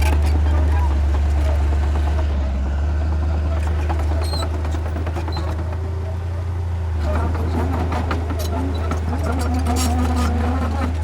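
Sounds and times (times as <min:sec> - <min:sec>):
heavy diesel machinery droning: 0:00.0 - 0:11.0.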